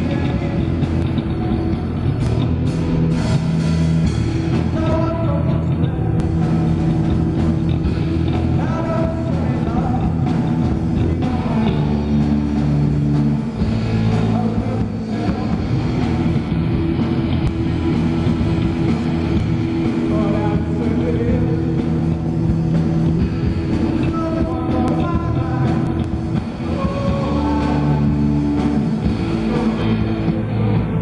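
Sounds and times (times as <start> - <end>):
drum kit: 0.0 - 31.0
electric bass: 0.0 - 31.0
electric guitar: 0.0 - 31.0.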